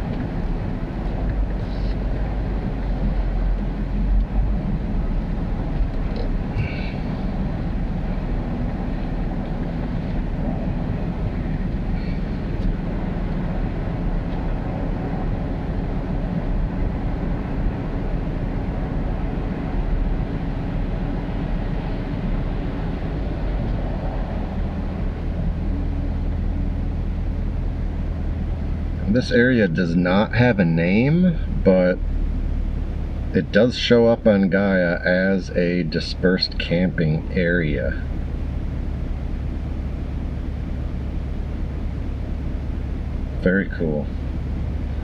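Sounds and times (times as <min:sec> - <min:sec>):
pickup truck engine rumble: 0:00.0 - 0:45.0.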